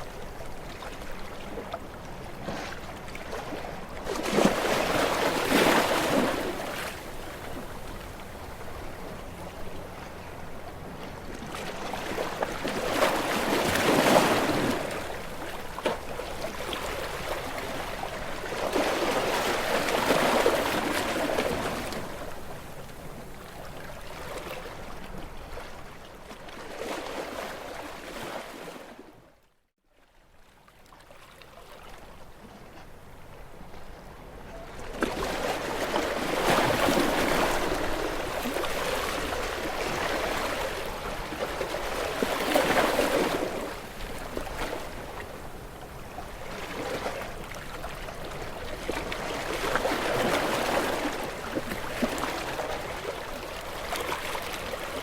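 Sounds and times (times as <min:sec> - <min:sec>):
waves breaking against rocks: 0:00.1 - 0:25.7, 0:34.7 - 0:55.0.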